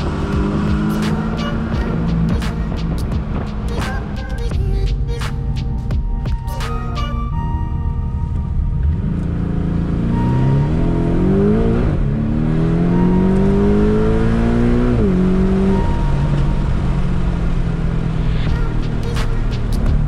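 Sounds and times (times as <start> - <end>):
car engine accelerating: 0.0 - 4.2, 7.1 - 20.0.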